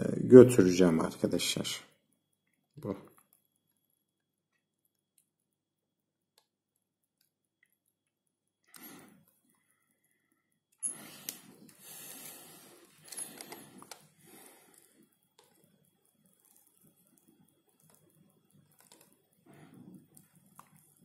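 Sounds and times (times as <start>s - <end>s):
soldering iron crackle: 0.7s - 21.0s.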